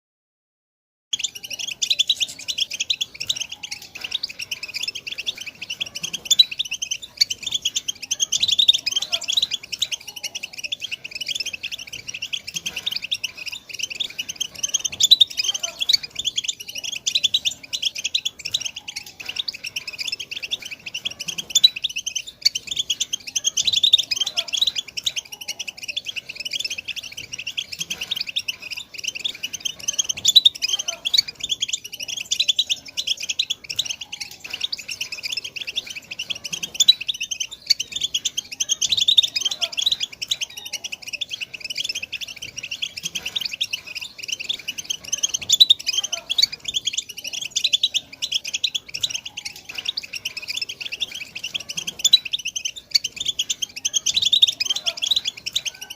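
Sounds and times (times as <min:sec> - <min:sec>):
finch twittering song: 0:01.1 - 0:55.9.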